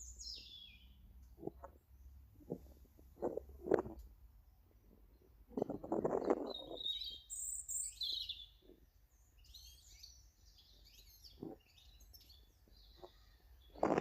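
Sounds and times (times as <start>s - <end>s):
small birds chirping: 0.0s - 4.0s, 5.0s - 14.0s.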